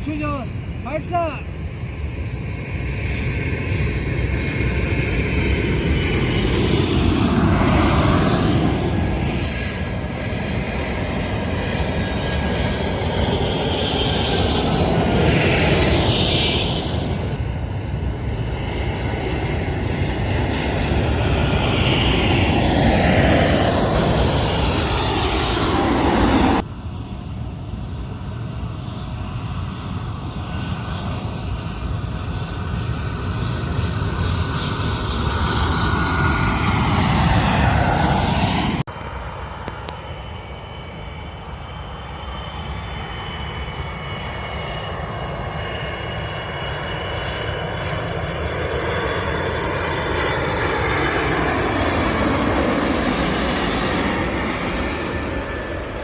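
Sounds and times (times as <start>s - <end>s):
airliner engine roar: 0.0s - 56.0s
jet engine whine: 0.0s - 56.0s.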